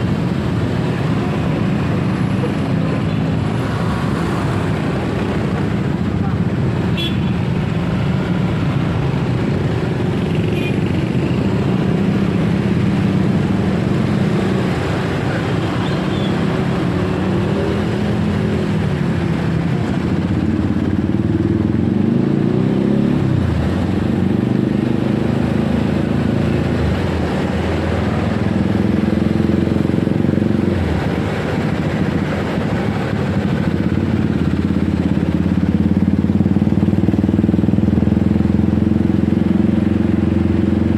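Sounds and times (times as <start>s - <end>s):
road noise: 0.0s - 40.9s
motorcycle engine running: 4.5s - 40.9s.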